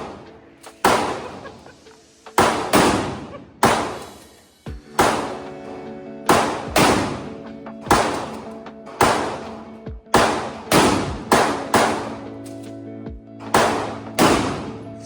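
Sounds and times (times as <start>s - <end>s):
echoing gunshots: 0.0s - 1.7s, 2.3s - 4.3s, 4.9s - 12.4s, 13.4s - 15.0s
background music: 0.0s - 15.0s.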